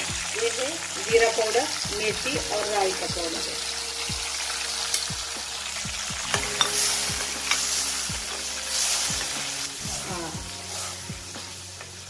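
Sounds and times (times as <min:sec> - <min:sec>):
liquid and oil boiling and sizzling: 0:00.0 - 0:12.0.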